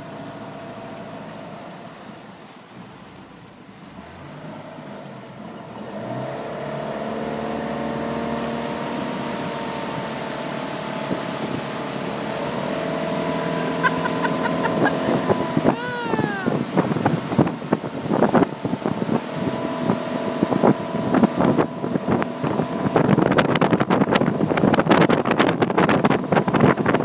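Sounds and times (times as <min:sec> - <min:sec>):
motorboat engine: 0:00.0 - 0:27.0
water rushing along hull: 0:00.0 - 0:27.0.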